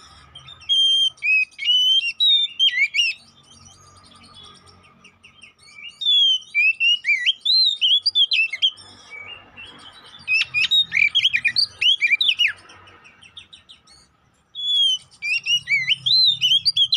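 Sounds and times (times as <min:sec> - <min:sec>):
magpie-robin singing: 0:00.0 - 0:16.9.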